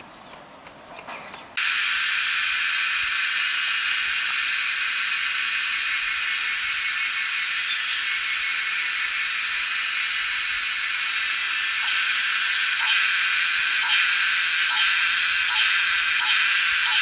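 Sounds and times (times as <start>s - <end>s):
high-pitched insect chorus: 1.5s - 17.0s.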